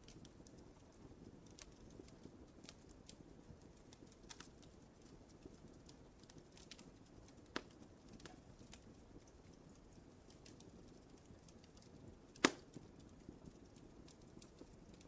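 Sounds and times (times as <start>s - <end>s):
fire crackling: 0.0s - 15.0s
fire pops: 0.0s - 15.0s.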